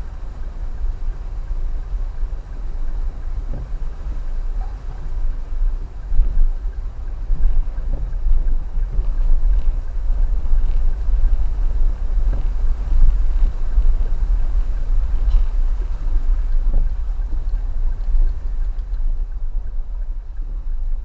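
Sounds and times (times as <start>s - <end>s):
car engine rumble: 0.0s - 21.0s.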